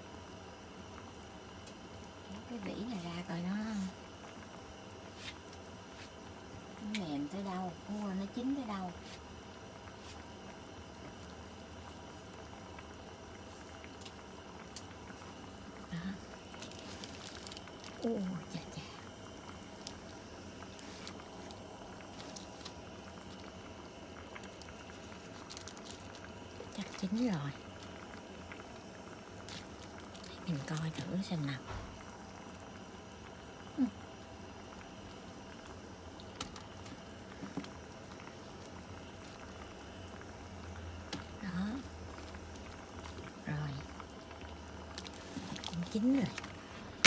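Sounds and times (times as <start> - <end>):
soup bubbling with small pops: 0.0 - 47.0.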